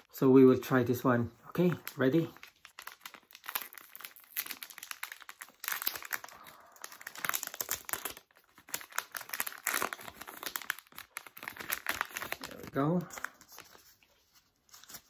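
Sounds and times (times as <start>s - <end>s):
packaging crinkling and rustling: 1.5s - 15.0s.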